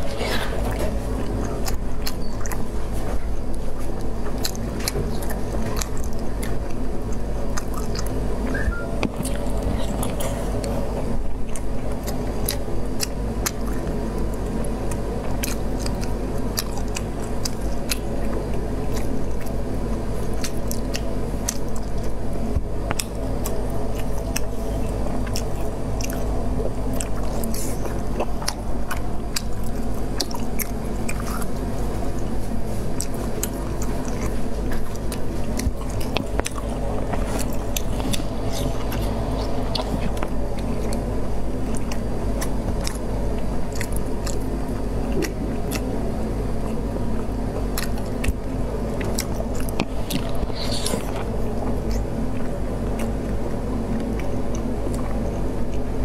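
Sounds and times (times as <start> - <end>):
chewing: 0.0 - 56.0
steady low hum: 0.0 - 56.0.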